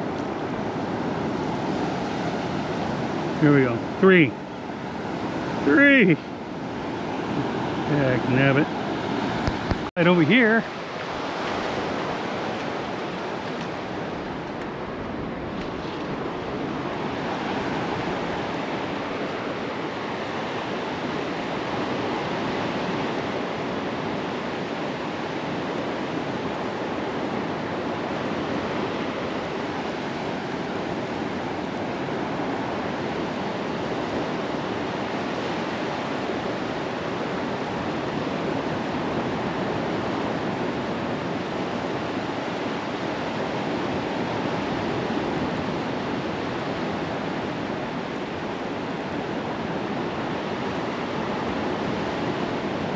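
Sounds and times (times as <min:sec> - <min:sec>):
waves breaking on beach: 0:00.0 - 0:52.9
wind: 0:00.0 - 0:52.9.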